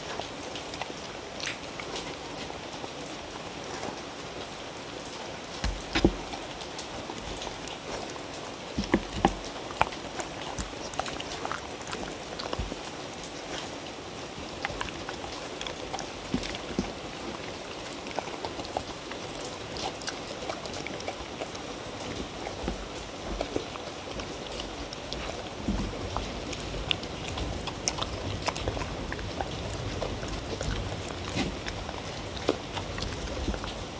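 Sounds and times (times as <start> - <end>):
dogs chewing and licking: 0.0 - 33.9
sharp crunches and clicks: 0.0 - 33.9.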